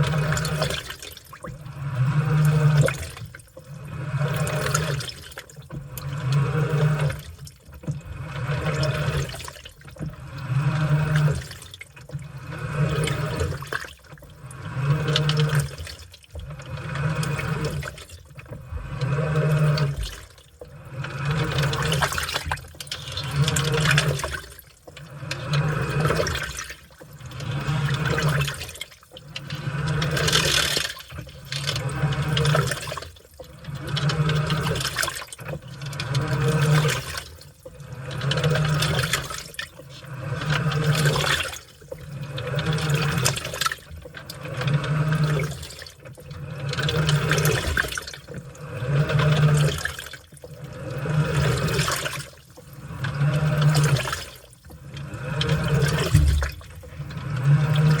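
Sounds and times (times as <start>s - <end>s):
washing machine motor hum: 0.0s - 58.0s
water sloshing in washing machine: 0.0s - 58.0s.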